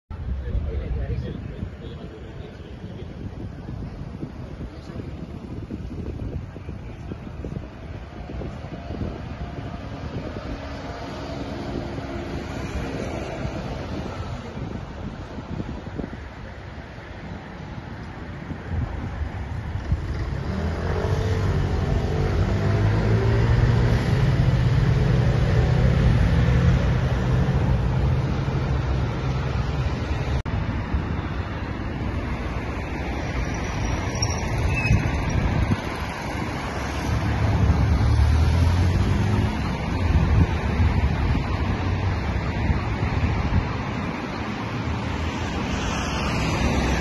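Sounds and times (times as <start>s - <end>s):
cars passing: 0.1s - 47.0s
steady low traffic rumble: 0.1s - 47.0s.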